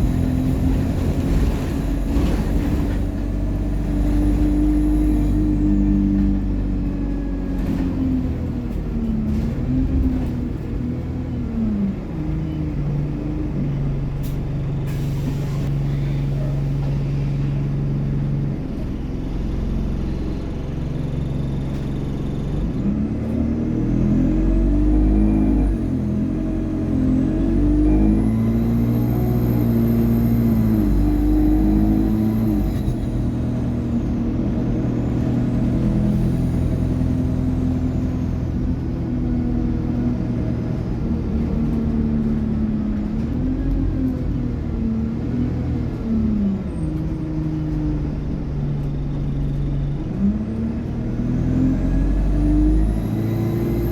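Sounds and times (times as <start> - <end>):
bus engine changing pitch: 0.0 - 53.9.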